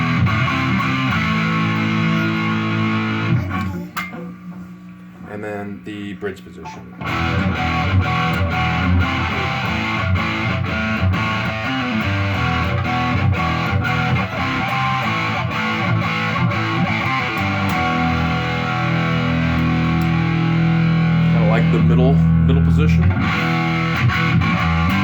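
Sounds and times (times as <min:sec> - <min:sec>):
distorted electric guitar chords: 0:00.0 - 0:04.5, 0:06.9 - 0:25.0.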